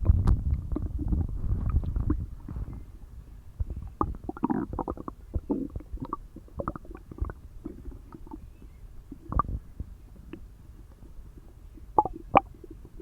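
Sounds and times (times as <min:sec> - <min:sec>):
stomach growling: 0:00.0 - 0:03.0, 0:03.6 - 0:13.0.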